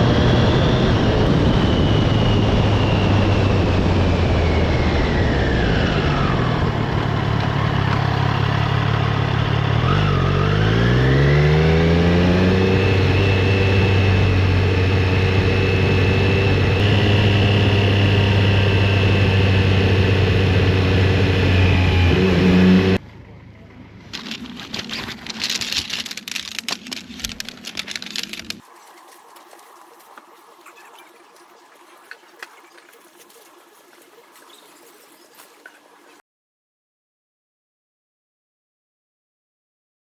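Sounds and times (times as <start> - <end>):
motorcycle engine accelerating: 0.0 - 36.2
road and wind noise: 0.0 - 36.2.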